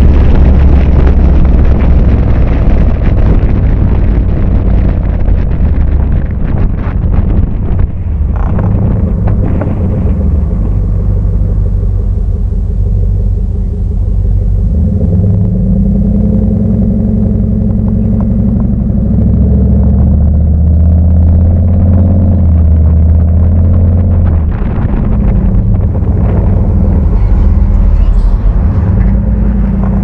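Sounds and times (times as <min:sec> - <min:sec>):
car exhaust drone while driving: 0:00.0 - 0:30.0.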